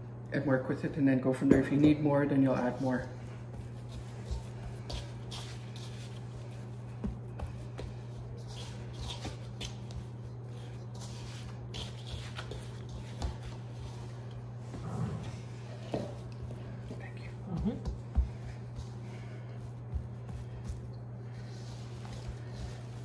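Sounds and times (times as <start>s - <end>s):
hands kneading dough in bowl: 2.5s - 23.0s.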